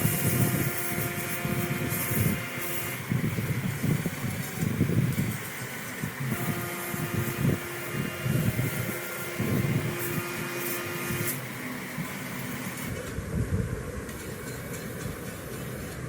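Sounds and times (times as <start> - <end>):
low mechanical rumble: 0.0 - 16.0
stepper motors whining: 0.0 - 16.0.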